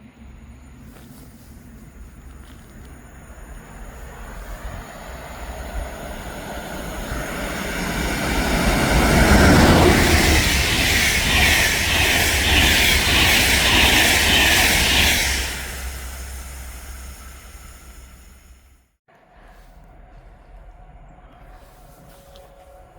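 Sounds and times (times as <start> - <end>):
train passing at speed: 0.0 - 22.9.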